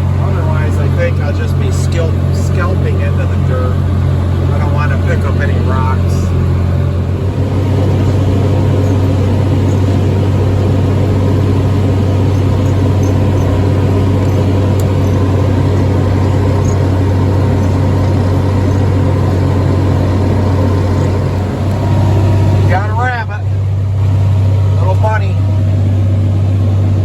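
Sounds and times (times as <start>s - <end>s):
tractor engine and hay mower: 0.0s - 27.0s.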